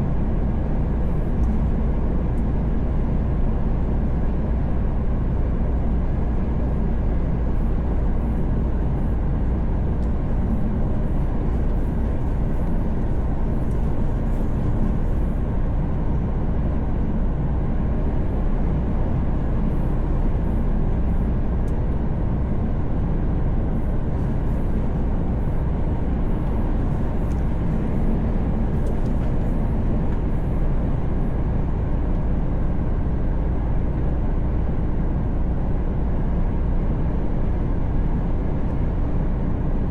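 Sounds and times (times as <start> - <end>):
truck engine and tyre drone: 5.6 - 39.8.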